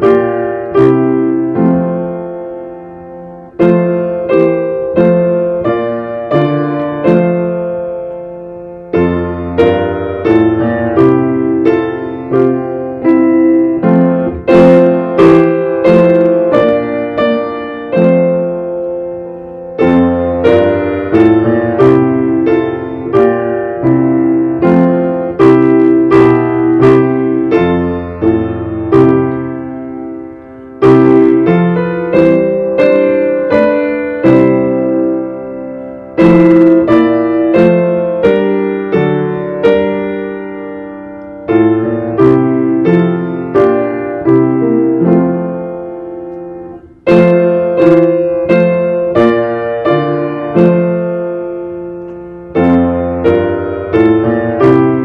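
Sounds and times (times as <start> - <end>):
upright piano chords: 0.0 - 55.0.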